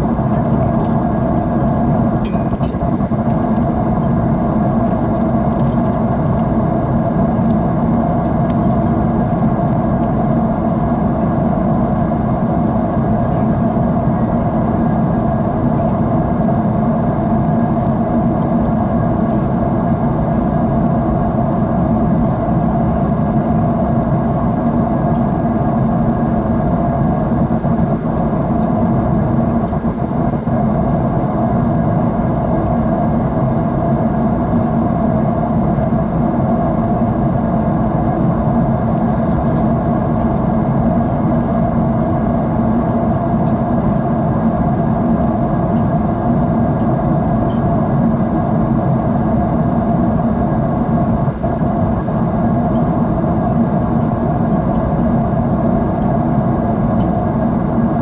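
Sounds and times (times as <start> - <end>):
jet engine drone inside cabin: 0.0 - 58.0.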